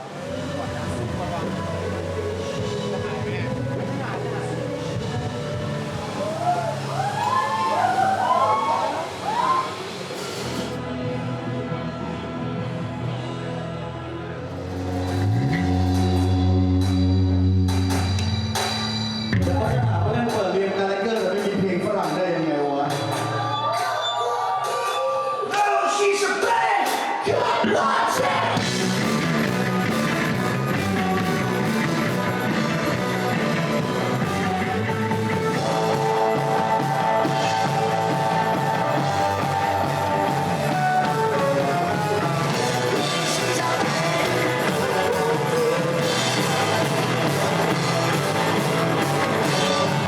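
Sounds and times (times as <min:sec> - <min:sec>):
rock music with singing: 0:00.0 - 0:50.0.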